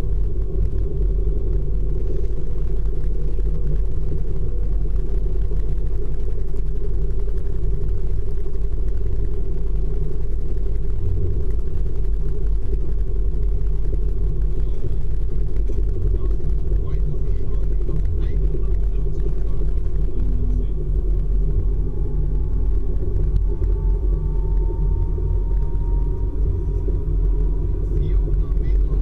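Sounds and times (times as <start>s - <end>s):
train rumbling from inside: 0.0s - 29.0s.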